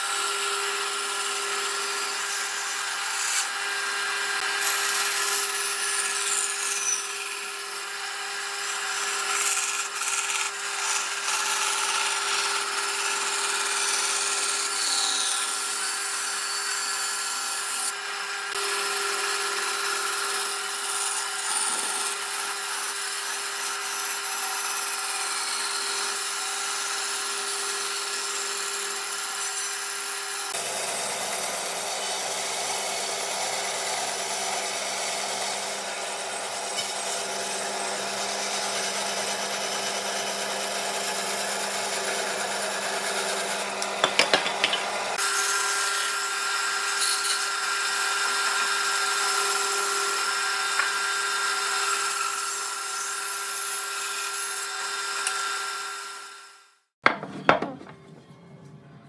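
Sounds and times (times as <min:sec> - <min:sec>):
bandsaw cutting wood: 0:00.0 - 0:56.6.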